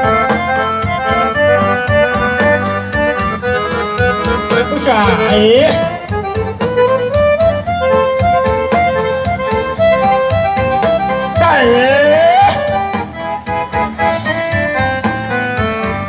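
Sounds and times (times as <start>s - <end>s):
accordion dance music: 0.0s - 16.0s.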